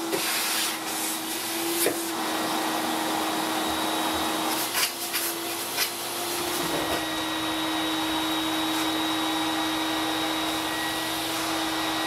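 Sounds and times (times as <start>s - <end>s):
shop vacuum running: 0.0s - 12.0s.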